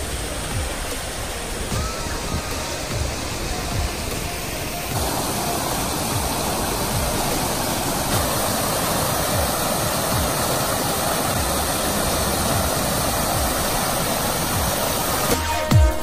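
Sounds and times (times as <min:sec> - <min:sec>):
fountain water splashing into pool: 0:00.0 - 0:15.5.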